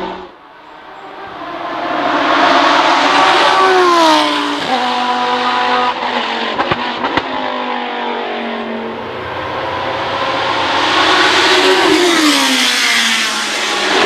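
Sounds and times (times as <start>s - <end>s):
racing car engine: 0.0s - 14.0s.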